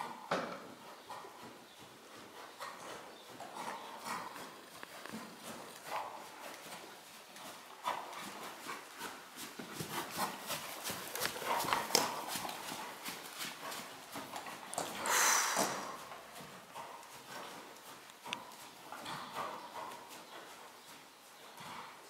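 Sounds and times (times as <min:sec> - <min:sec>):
horse hoofbeats on sand: 0:00.0 - 0:22.0.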